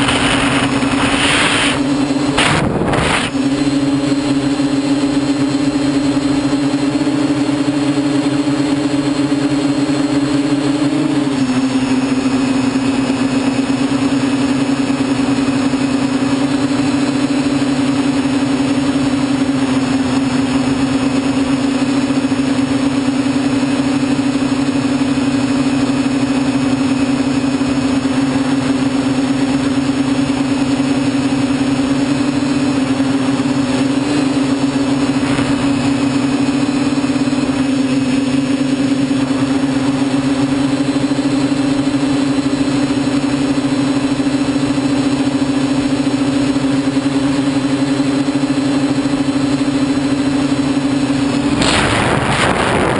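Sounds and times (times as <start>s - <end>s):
quadcopter motors buzzing: 0.0s - 52.9s.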